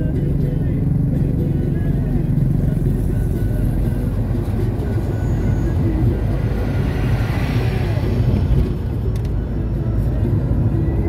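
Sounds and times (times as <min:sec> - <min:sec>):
car road noise: 0:00.0 - 0:11.0
lorry passing: 0:00.9 - 0:10.0.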